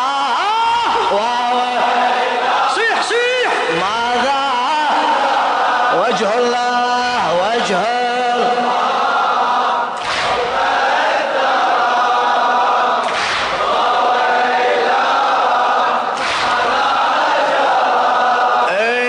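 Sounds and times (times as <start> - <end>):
male chorus chanting: 0.0 - 19.0.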